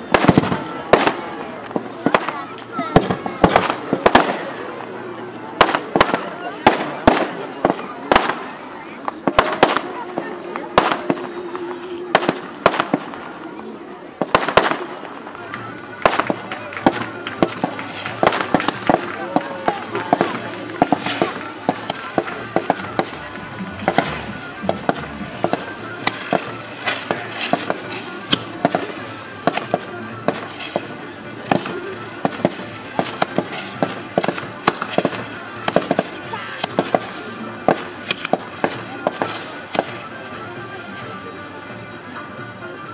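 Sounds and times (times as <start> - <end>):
fireworks bursting: 0.0 - 40.3.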